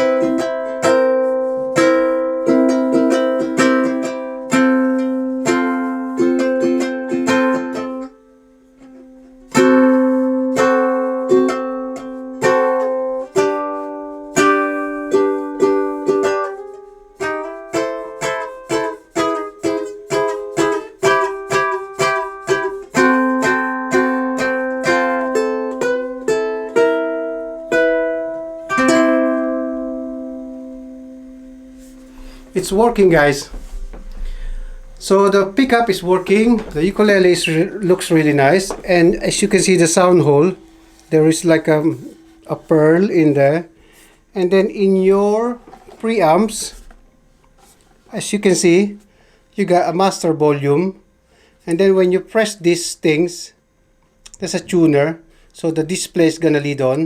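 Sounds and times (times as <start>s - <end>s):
ukulele picked notes: 0.0s - 47.0s
ukulele strumming chords: 0.0s - 49.1s.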